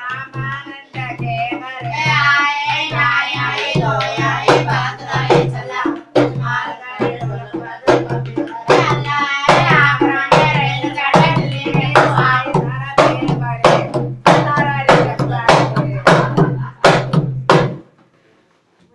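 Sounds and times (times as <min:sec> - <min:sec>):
voices singing folk song: 0:00.0 - 0:17.4
barrel drum beat: 0:00.0 - 0:17.9.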